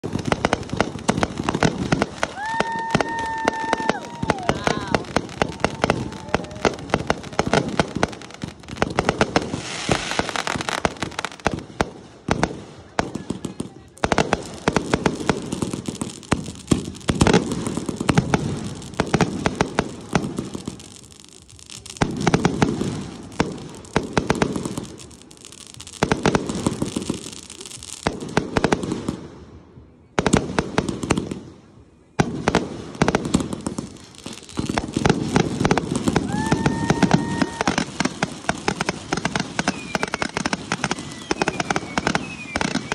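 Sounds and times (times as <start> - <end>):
fireworks crackling: 0.0 - 42.9
fireworks launching and bursting: 0.0 - 42.9.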